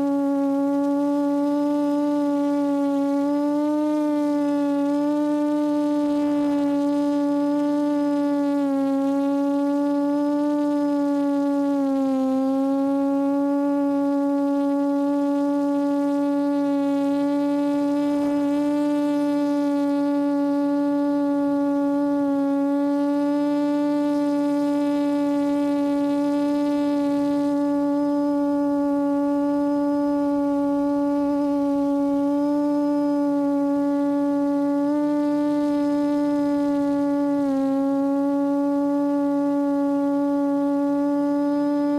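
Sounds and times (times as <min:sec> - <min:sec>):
drone motors humming: 0:00.0 - 0:41.9.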